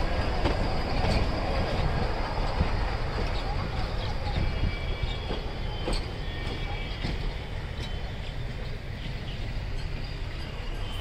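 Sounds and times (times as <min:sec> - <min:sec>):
high wheel squeal: 0:00.0 - 0:11.0
train rumbling on rails: 0:00.0 - 0:11.0.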